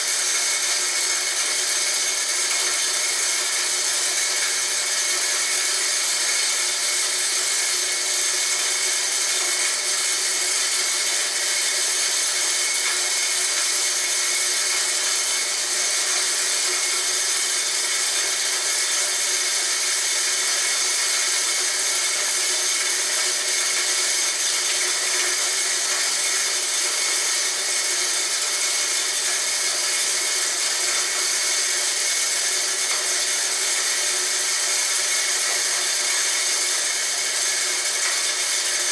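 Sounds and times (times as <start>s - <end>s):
grinder running with high hiss: 0.0s - 38.9s.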